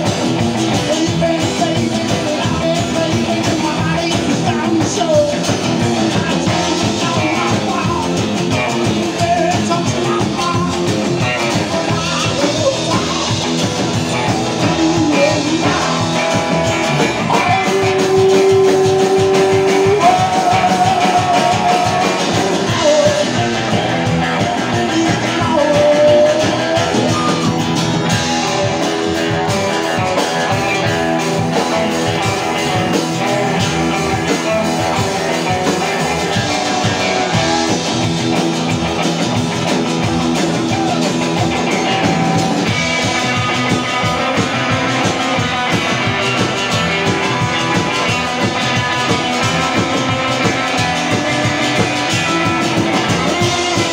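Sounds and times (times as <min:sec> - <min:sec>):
bent lead guitar notes: 0:00.0 - 0:53.9
live country rock band: 0:00.0 - 0:53.9.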